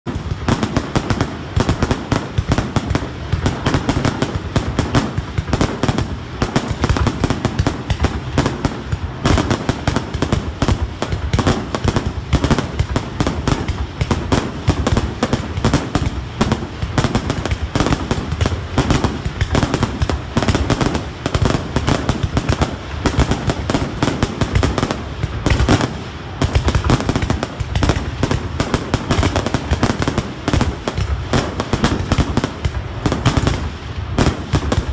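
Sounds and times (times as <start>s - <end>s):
fireworks bangs and crackling: 0.0s - 34.9s.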